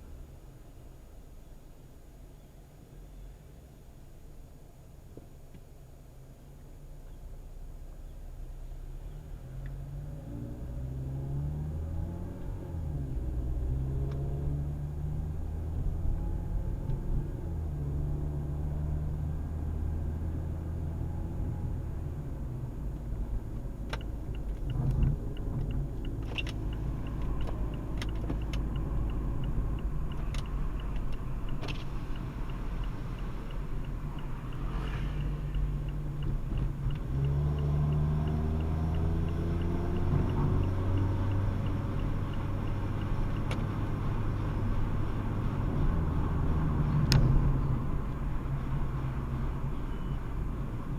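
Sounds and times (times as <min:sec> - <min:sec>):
car engine droning: 0:06.1 - 0:50.9.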